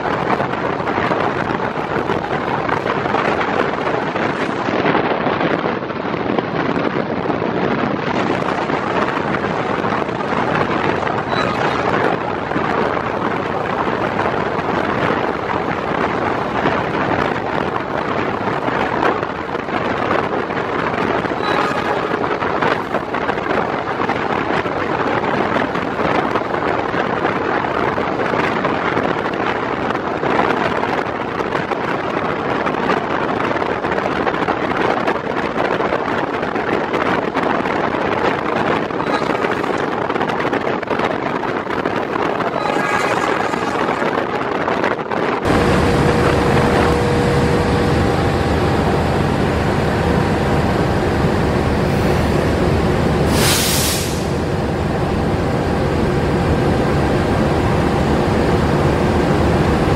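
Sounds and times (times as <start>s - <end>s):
train rumbling at speed: 0.0s - 59.9s
wind buffeting microphone: 0.0s - 59.9s.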